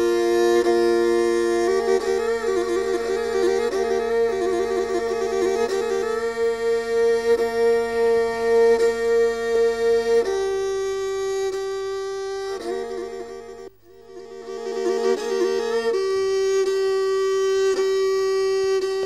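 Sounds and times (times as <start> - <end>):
bowed fiddle long notes: 0.0 - 19.0.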